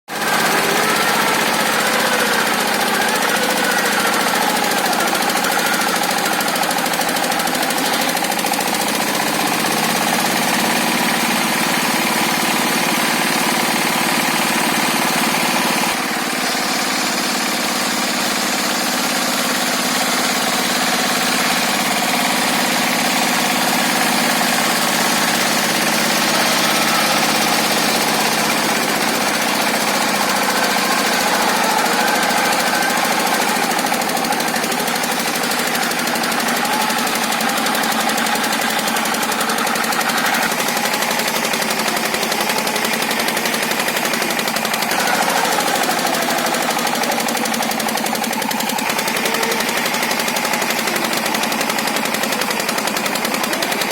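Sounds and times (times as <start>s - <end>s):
circular sawmill cutting timber: 0.0s - 53.9s.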